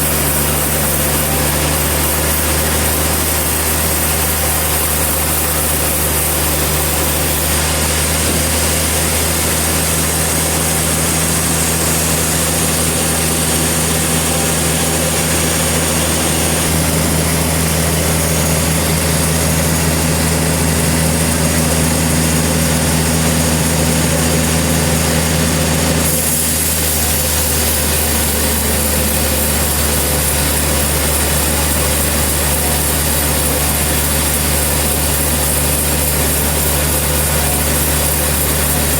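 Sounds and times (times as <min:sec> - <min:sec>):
sawmill engine droning: 0:00.0 - 0:38.9.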